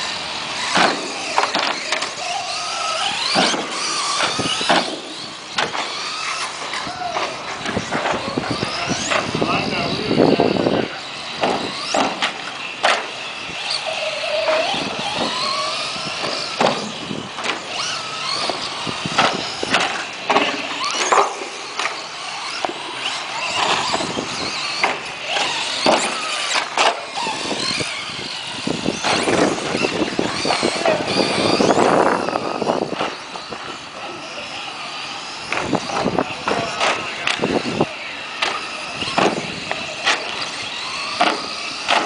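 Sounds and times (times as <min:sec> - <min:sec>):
rc truck motors whining: 0:00.0 - 0:42.0.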